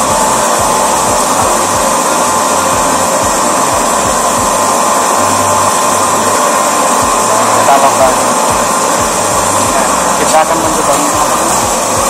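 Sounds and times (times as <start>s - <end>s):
pump motor whirring: 0.0s - 12.0s
thin steady tone: 0.0s - 12.0s.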